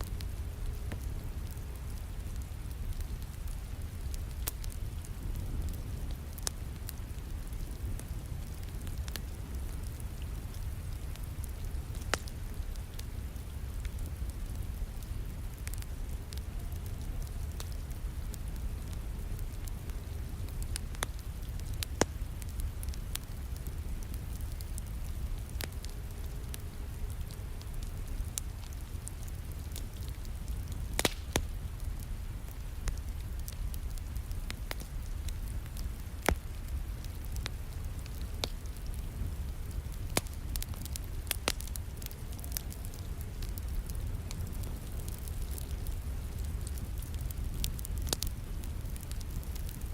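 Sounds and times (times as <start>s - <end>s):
low fire rumble: 0.0s - 49.9s
wood fire crackling and popping: 0.0s - 49.9s.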